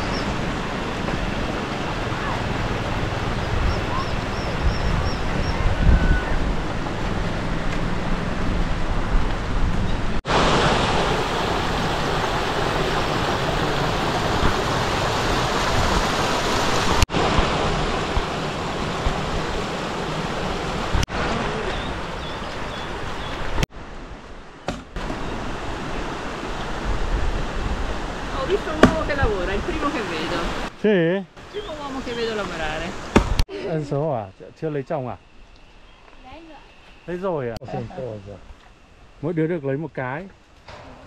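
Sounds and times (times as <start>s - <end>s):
stream water flowing: 0.0s - 30.8s, 31.4s - 34.0s.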